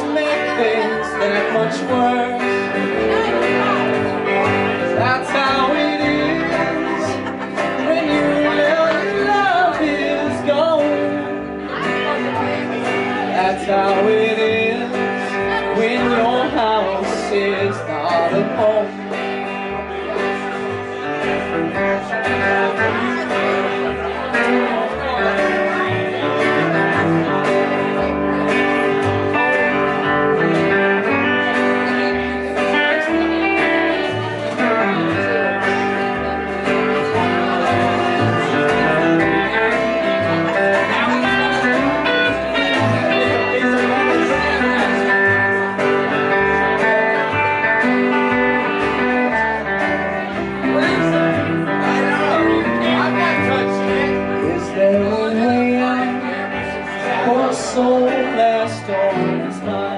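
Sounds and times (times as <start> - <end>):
country band playing: 0.0 - 59.9
guitar: 0.0 - 59.9
upright bass line: 0.0 - 59.9.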